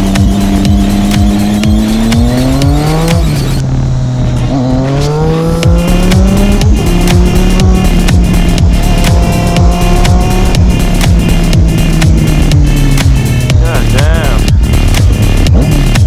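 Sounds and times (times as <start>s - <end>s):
music with steady beat: 0.0s - 3.6s, 5.3s - 16.0s
car engine accelerating: 0.0s - 16.0s.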